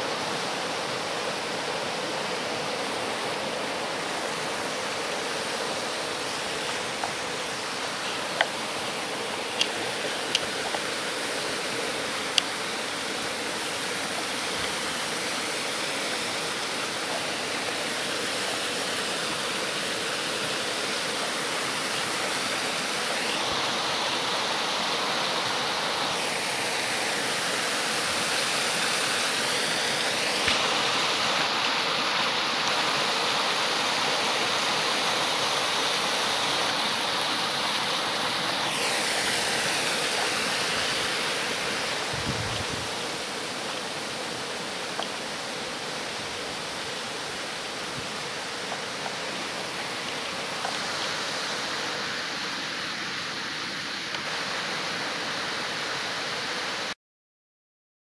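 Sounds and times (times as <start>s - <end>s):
small waterfall splashing: 0.0s - 57.0s.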